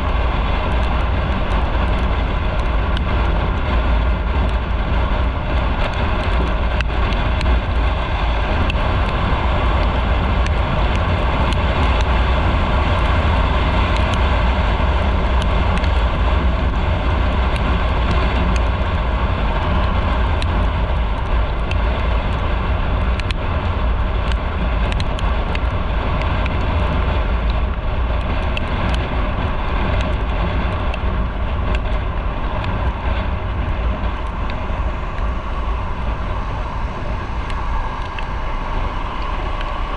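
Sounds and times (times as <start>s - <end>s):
motorcycle riding: 0.0s - 39.9s.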